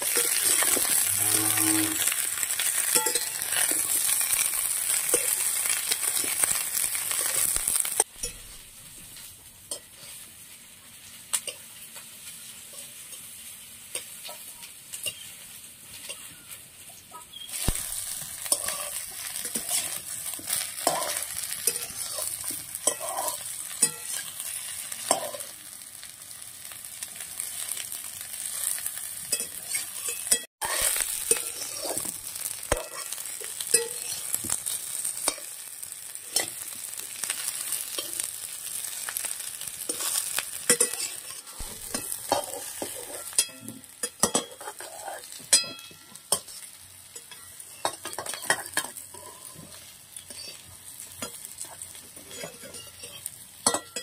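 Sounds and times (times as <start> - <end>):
metal spatula scraping a pan: 0.0 - 8.6, 11.4 - 26.1, 26.9 - 54.0
vegetables sizzling in a wok: 0.0 - 54.0.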